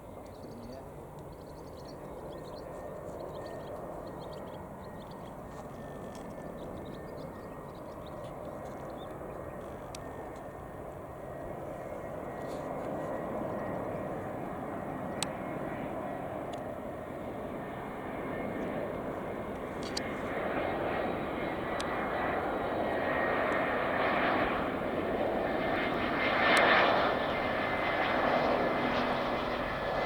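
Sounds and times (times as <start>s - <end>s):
jet engine rumble and whine: 0.0s - 30.0s.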